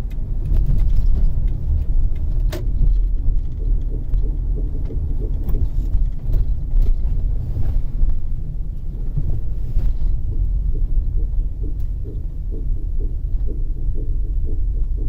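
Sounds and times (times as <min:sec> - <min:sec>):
minivan driving rumble: 0:00.0 - 0:15.0.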